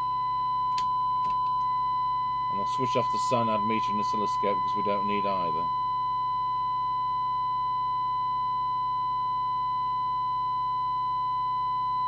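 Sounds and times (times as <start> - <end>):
faint low hum: 0.0 - 12.0
steady test tone through speaker: 0.0 - 12.0.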